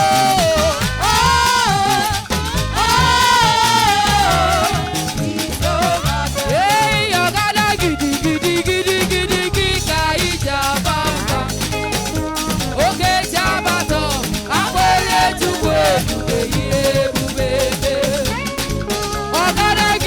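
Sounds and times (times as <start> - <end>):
bass: 0.0 - 20.0
church praise band playing: 0.0 - 20.0
drums: 0.0 - 20.0
hand percussion: 0.0 - 20.0
lead melody with bending notes: 0.0 - 20.0.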